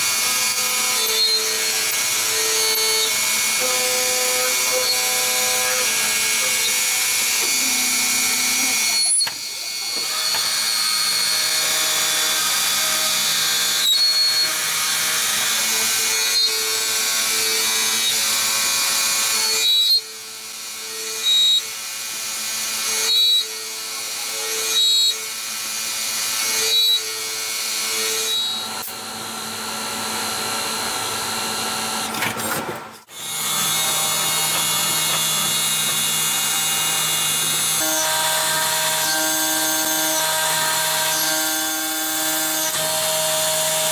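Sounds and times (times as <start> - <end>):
lathe spindle whine: 0.0 - 32.1, 33.1 - 43.9.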